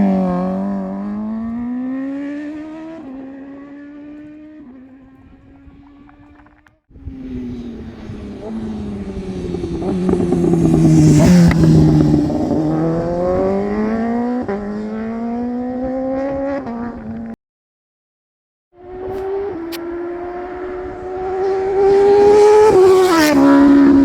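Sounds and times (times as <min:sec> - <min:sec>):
motorcycle engine passing at speed: 0:00.0 - 0:17.4, 0:18.8 - 0:24.0.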